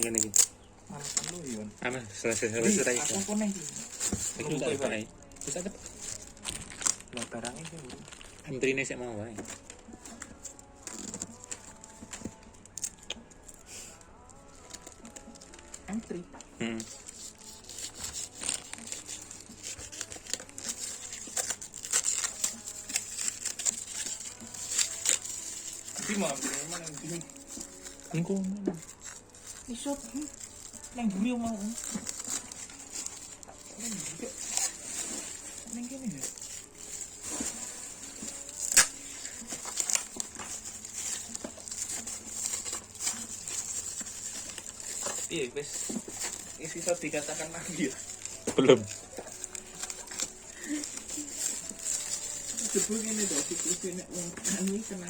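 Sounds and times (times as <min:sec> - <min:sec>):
plastic packaging crinkling: 0:00.0 - 0:55.0.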